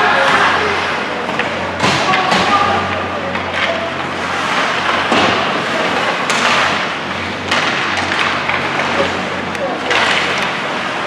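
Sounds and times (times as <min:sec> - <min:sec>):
hockey sticks and skates scraping ice: 0:00.0 - 0:11.0
steady low hum: 0:00.4 - 0:11.0.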